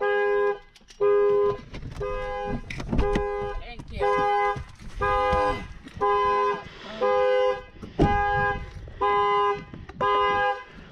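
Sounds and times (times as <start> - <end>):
car alarm horn blasts: 0.0 - 10.9.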